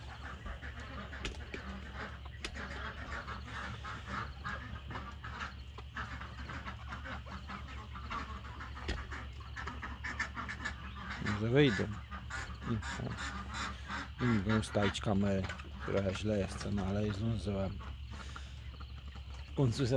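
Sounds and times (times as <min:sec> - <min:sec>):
hens and ducks calling: 0:00.0 - 0:19.9.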